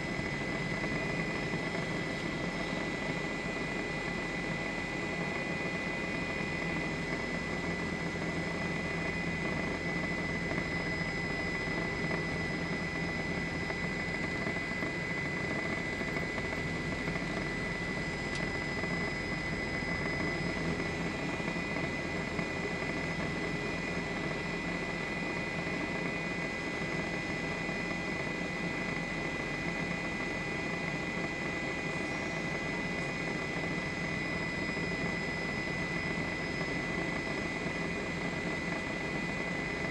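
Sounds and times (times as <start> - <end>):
helicopter turbine and rotors: 0.0 - 39.9.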